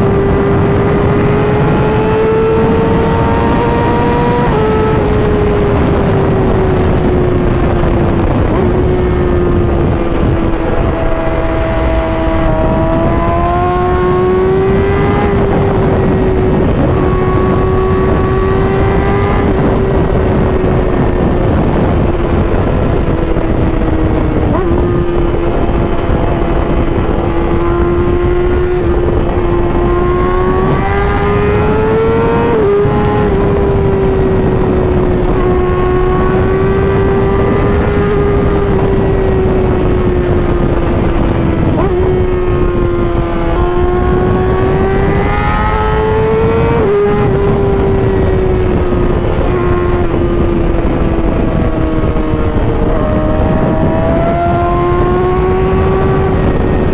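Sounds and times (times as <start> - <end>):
motorcycle engine at high revs: 0.0 - 56.9
wind rush: 0.0 - 56.9.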